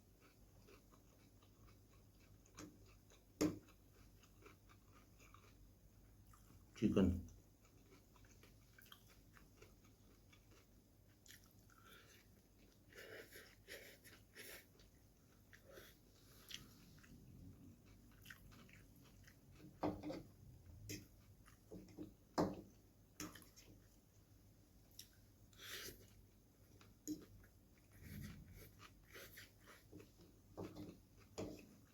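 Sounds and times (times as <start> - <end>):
close-up chewing: 0.0 - 6.7, 7.3 - 24.2, 24.8 - 31.9.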